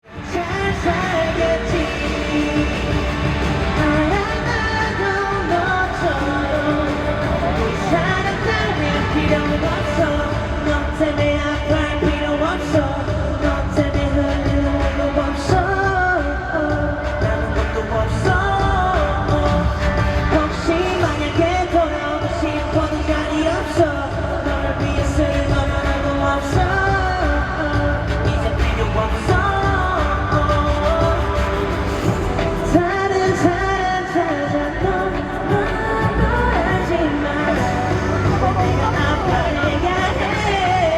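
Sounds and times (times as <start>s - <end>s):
backing track music: 0.0s - 40.9s
man singing pop live: 0.0s - 40.9s.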